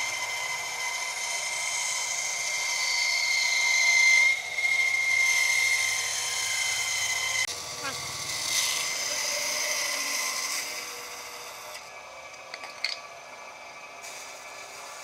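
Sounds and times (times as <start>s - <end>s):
bandsaw cutting wood: 0.0s - 15.0s.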